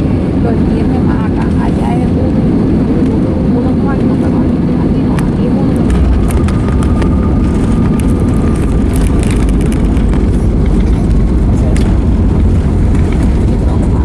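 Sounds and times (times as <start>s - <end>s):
aircraft cabin engine rumble: 0.0s - 14.0s.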